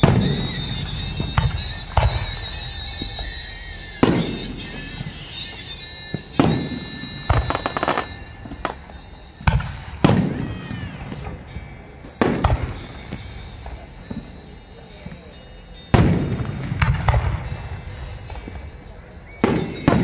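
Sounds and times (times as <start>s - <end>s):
fireworks booming with echo: 0.0s - 20.0s
fireworks cracking: 0.0s - 20.0s.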